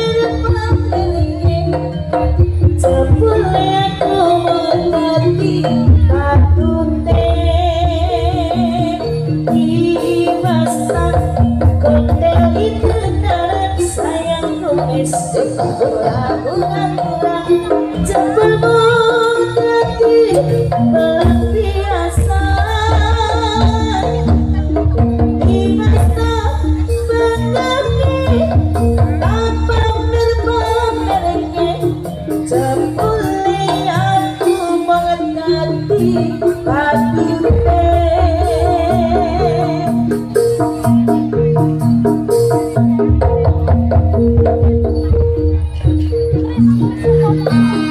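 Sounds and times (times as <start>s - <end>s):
gamelan ensemble melody: 0.0s - 47.9s
low percussion backing: 0.0s - 47.9s.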